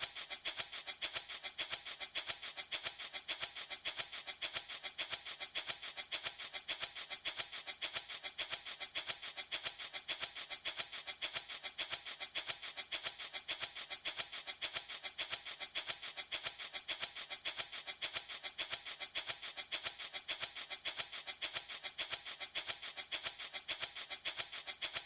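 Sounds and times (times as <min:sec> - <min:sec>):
wooden baby rattle shaking: 0:00.0 - 0:25.0.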